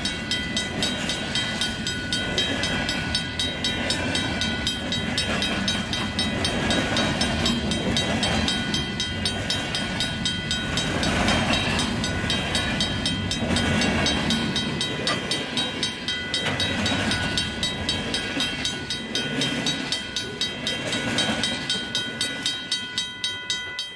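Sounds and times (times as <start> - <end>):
train wheels clicking over rail joints: 0.0 - 23.0
high ringing from wheels and rails: 0.0 - 23.9.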